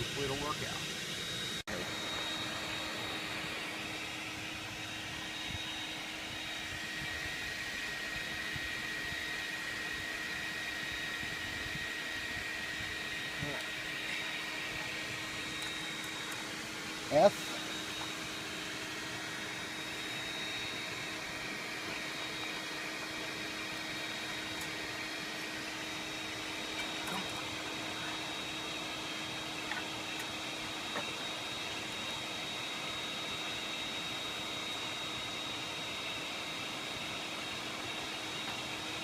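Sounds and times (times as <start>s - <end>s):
electric blower whooshing: 0.0s - 39.0s.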